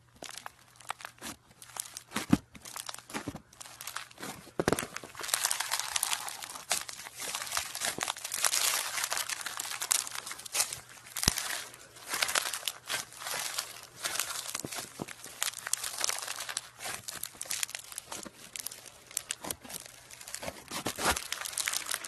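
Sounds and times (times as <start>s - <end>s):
slime beads crackling: 0.2s - 22.0s.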